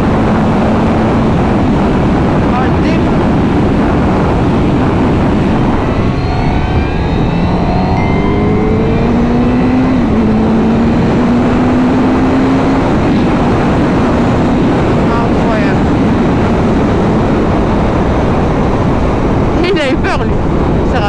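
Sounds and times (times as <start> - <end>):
motorcycle engine accelerating: 0.0 - 20.8
heavy wind noise: 0.0 - 21.0.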